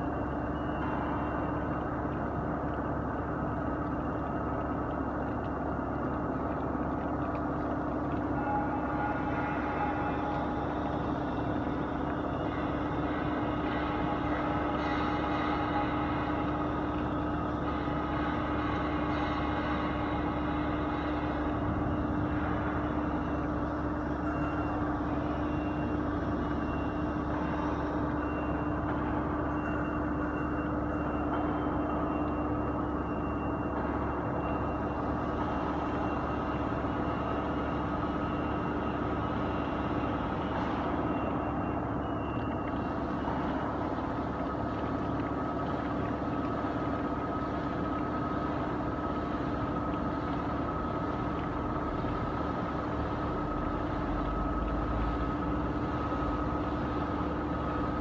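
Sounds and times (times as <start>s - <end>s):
boring machine humming: 0.0s - 58.0s.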